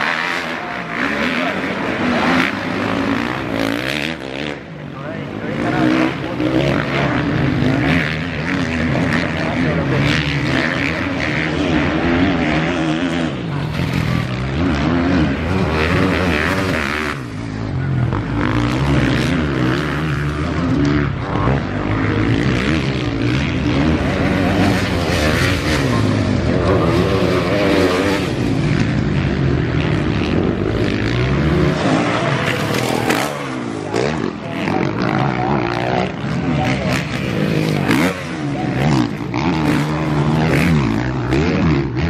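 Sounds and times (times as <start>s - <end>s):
motocross bike engines revving: 0.0s - 42.0s.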